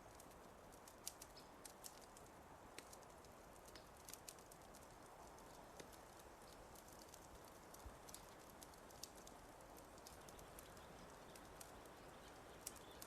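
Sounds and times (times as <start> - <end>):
fire crackling faintly: 0.0 - 13.0
low steady hiss: 0.0 - 13.0.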